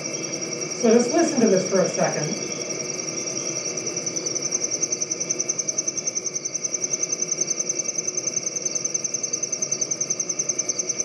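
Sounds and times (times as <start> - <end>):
distant tree crickets trilling: 0.0 - 11.0
ground crickets pulsing: 0.0 - 11.0.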